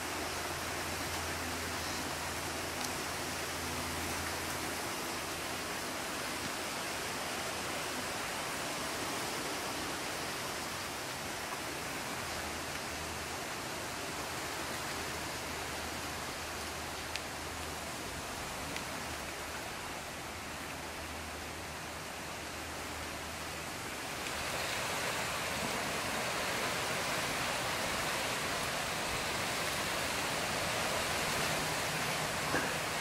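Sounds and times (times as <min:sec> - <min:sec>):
outdoor background hiss: 0:00.0 - 0:33.0.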